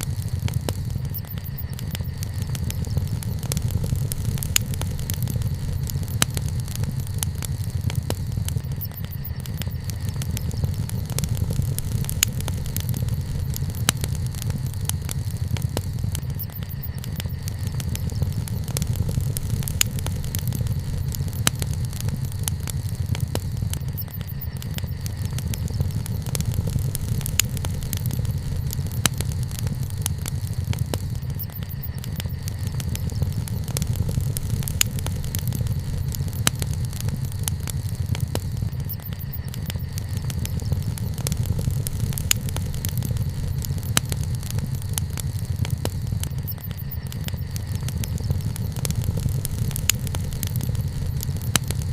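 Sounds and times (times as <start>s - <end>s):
low rumble: 0.0s - 46.4s
campfire crackling and popping: 0.0s - 51.9s.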